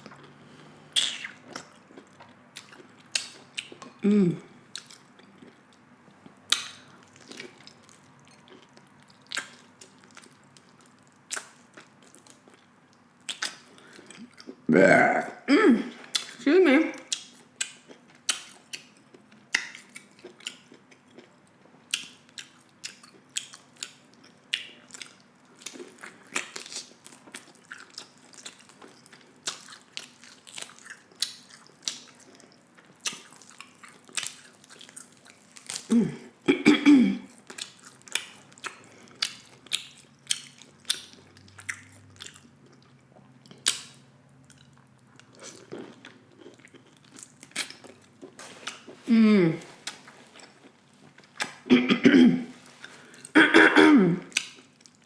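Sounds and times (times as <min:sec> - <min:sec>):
person chewing food: 0:00.0 - 0:36.6, 0:37.2 - 0:51.7, 0:52.5 - 0:53.4, 0:54.2 - 0:55.0.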